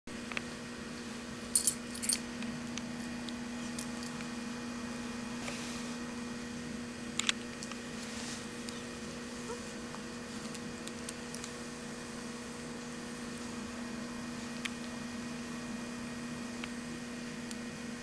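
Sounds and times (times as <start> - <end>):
faint hum: 0.1 - 18.0.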